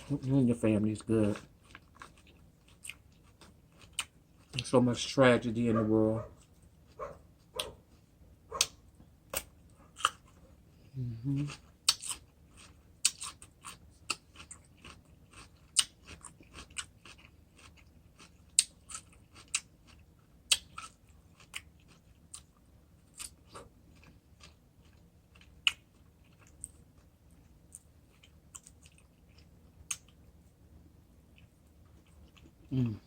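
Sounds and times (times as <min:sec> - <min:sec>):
person chewing crunchy food: 0:00.0 - 0:04.8, 0:06.4 - 0:30.5, 0:31.1 - 0:33.0.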